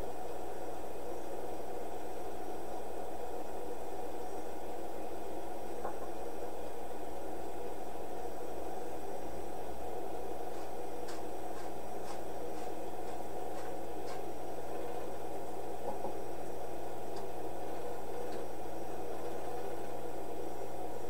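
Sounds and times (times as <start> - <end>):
film transfer hiss and hum: 0.0 - 21.0.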